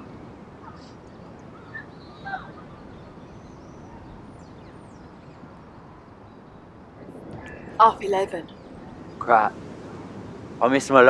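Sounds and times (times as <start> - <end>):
faint high bird calls: 0.0 - 10.4.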